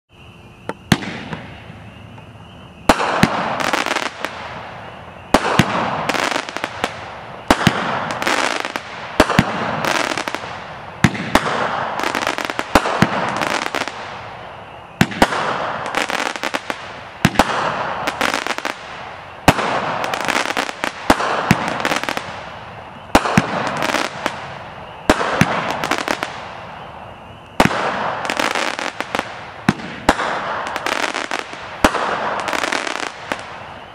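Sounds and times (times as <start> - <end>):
crackling firework stars: 0.1 - 33.9
firework bangs: 0.2 - 33.9.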